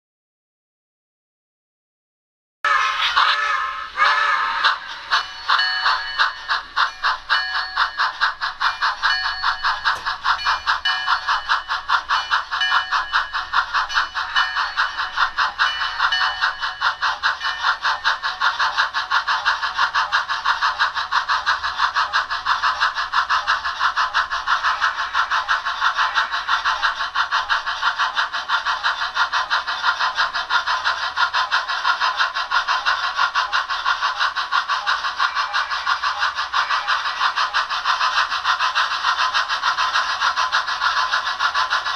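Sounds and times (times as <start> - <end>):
model steam locomotive chuffing: 2.7 - 41.9.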